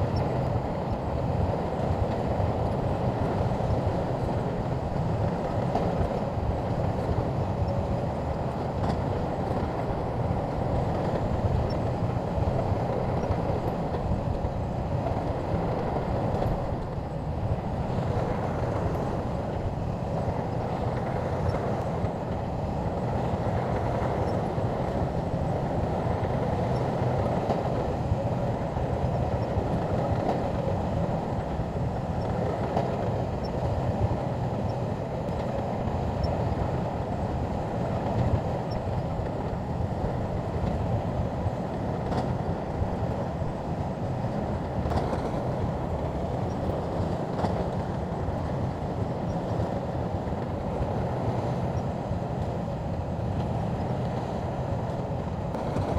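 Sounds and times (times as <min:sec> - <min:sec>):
bulldozer diesel engine: 0:00.0 - 0:55.9
steel tracks running: 0:00.0 - 0:55.9.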